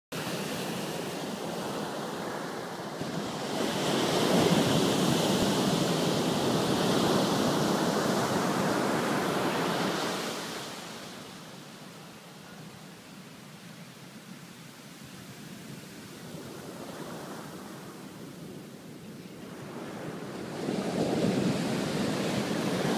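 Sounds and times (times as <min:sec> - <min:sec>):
surf breaking on beach: 0:00.2 - 0:11.6, 0:15.7 - 0:22.9.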